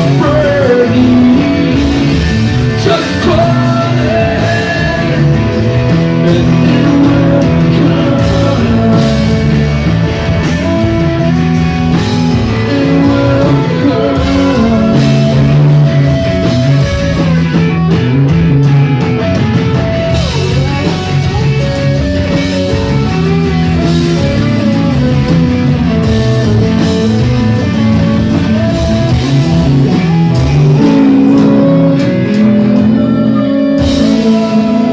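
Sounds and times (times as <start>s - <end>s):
electric guitar: 0.0s - 34.9s
live rock band playing: 0.0s - 34.9s.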